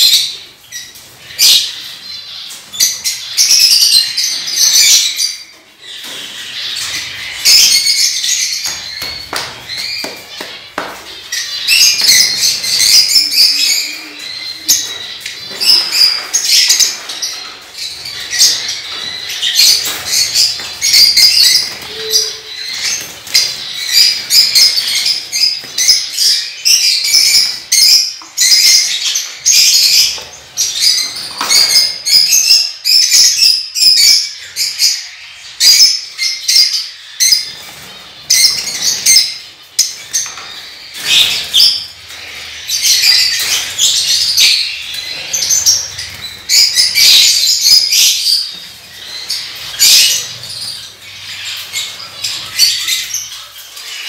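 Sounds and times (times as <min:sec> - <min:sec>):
small parrots chirping: 0:00.0 - 0:54.0.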